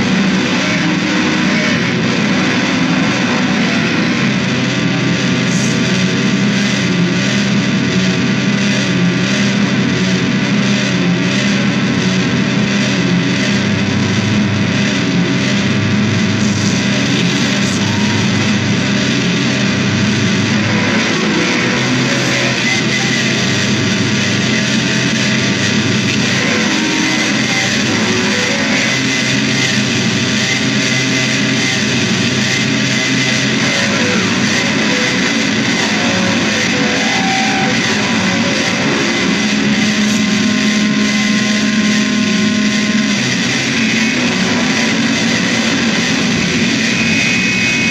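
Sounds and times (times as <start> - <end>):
distorted electric guitar music: 0.0 - 47.9.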